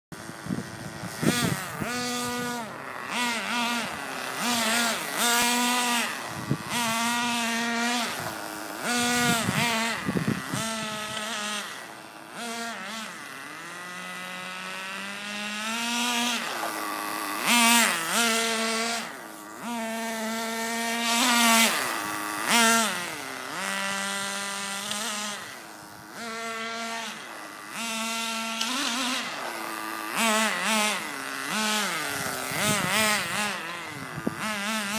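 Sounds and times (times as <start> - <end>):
rc car nitro engine revving: 0.2 - 34.9.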